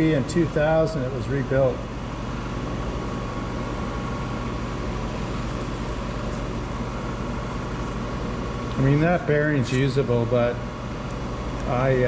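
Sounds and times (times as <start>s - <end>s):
faint constant whine: 0.0s - 12.0s
steady machine hum: 0.0s - 12.0s.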